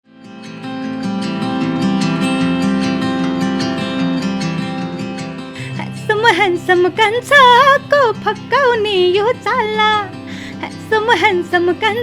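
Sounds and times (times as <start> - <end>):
strummed acoustic guitar: 0.1 - 12.0.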